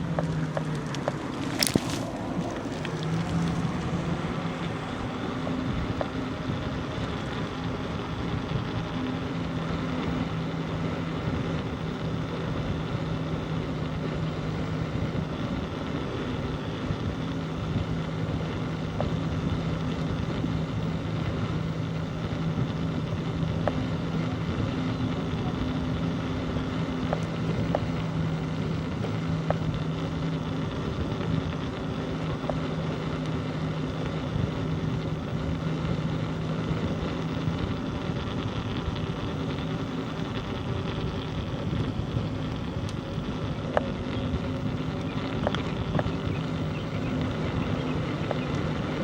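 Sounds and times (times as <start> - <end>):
bicycle rolling noise: 0.0 - 49.0
faint clicks: 0.0 - 49.0
low hum: 0.0 - 49.0
wind: 0.0 - 49.0.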